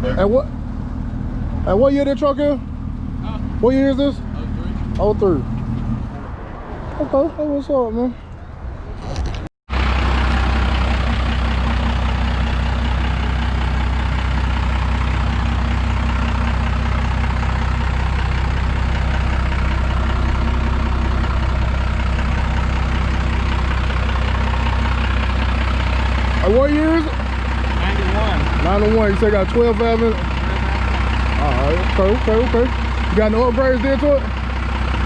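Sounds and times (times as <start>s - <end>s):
diesel engine idling: 0.0s - 6.5s, 7.1s - 35.0s.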